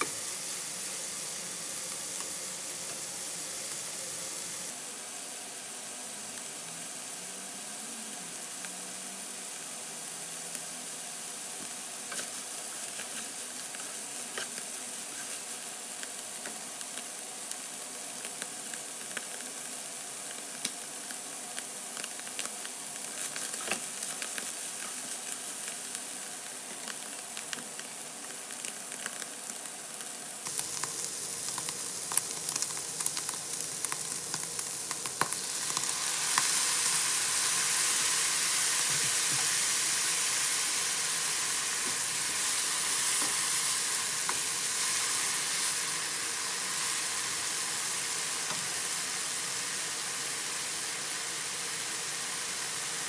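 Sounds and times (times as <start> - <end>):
meat and onions sizzling in pan: 0.0 - 53.0
sauce poured into hot pan hissing: 0.0 - 53.0.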